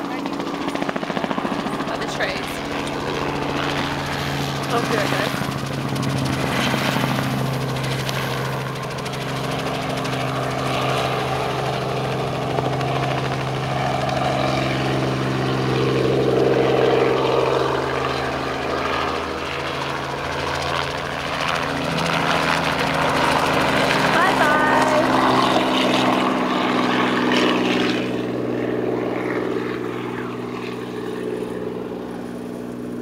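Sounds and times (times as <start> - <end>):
helicopter engine and rotor drone: 0.0 - 33.0.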